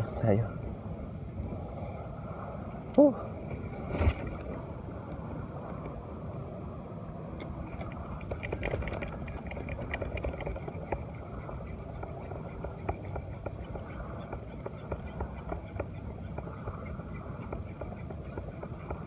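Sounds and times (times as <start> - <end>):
wind: 0.0 - 19.0
sea water: 0.8 - 19.0.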